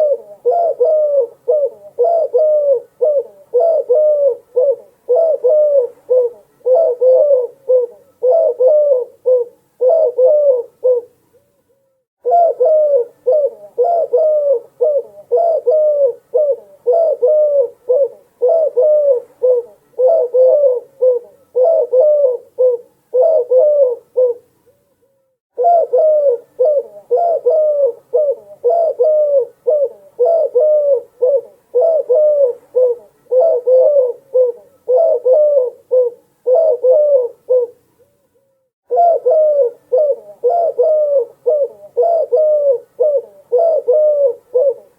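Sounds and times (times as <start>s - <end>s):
dove cooing: 0.0s - 11.4s, 12.2s - 24.5s, 25.5s - 37.9s, 38.9s - 44.9s.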